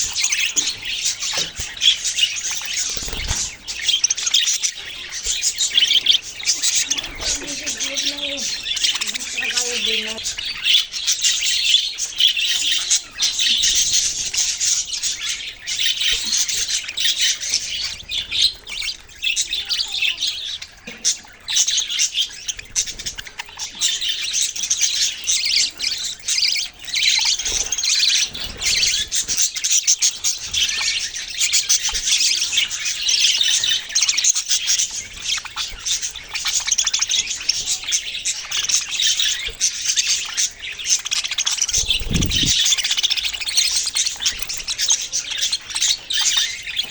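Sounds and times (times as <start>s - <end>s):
small birds chirping and squawking: 0.0s - 46.9s.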